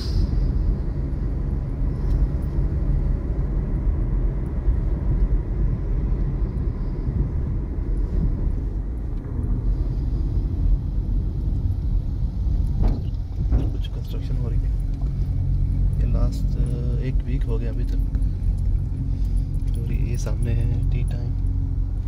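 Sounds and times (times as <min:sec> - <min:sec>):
car driving rumble from inside: 0:00.0 - 0:22.0.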